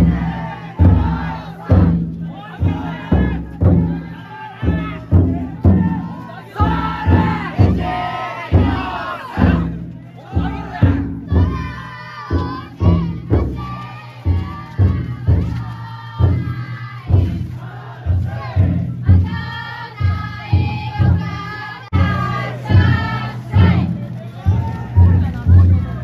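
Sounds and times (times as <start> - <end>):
crowd chanting and shouting: 0.0 - 26.0
heavy drum beats: 0.0 - 26.0.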